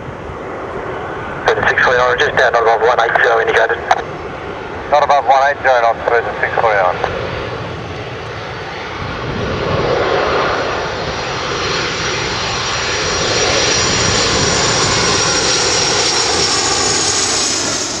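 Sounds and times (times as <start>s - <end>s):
high jet whine: 0.0s - 18.0s
jet engines roaring: 0.0s - 18.0s.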